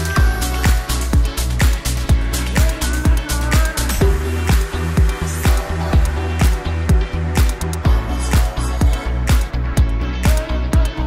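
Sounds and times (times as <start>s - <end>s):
dance music: 0.0s - 11.0s
deep bass line: 0.0s - 11.0s
kick drum: 0.0s - 11.0s.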